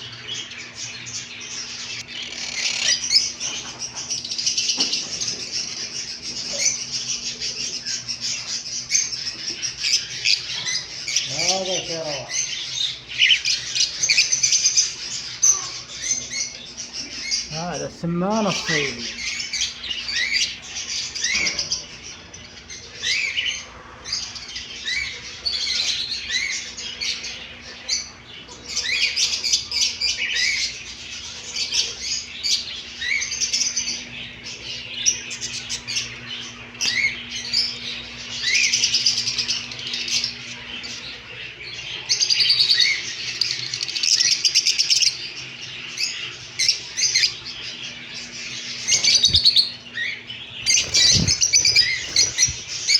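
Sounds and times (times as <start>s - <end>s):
caged birds chirping and twittering: 0.0s - 52.9s.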